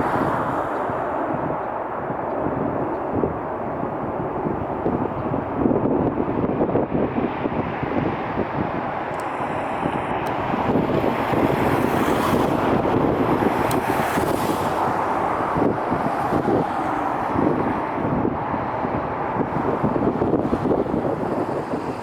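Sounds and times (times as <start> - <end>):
steady rumbling noise: 0.0 - 22.0
wind buffeting microphone: 0.0 - 22.0.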